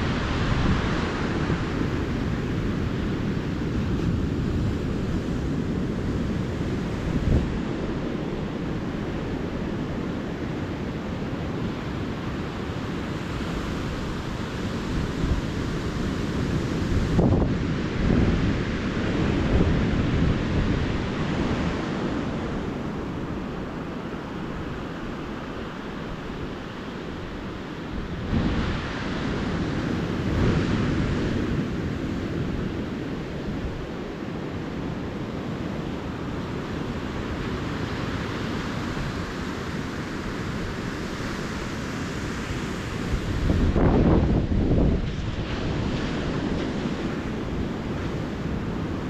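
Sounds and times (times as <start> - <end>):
small waves breaking on beach: 0.0 - 49.0
wind rumbling on microphone: 0.0 - 49.0.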